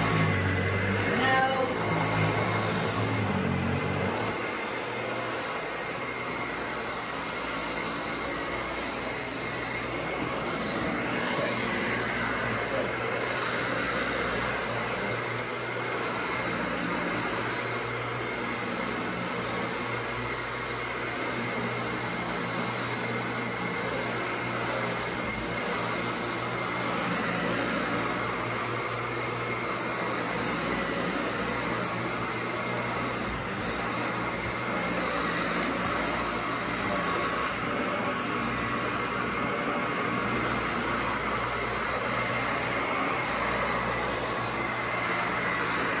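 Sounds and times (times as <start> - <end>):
vacuum cleaner on carpet: 0.0 - 46.0.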